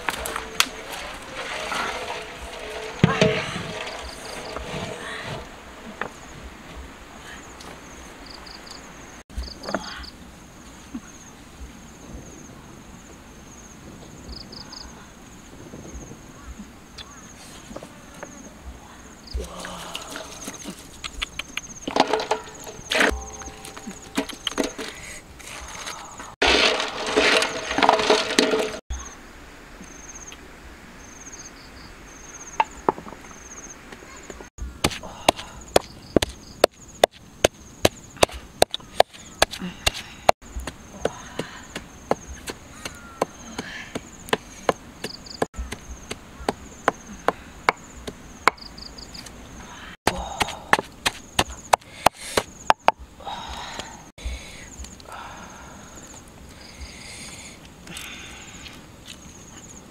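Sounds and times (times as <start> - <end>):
insect chirping: 0.0 - 26.4, 28.9 - 59.9.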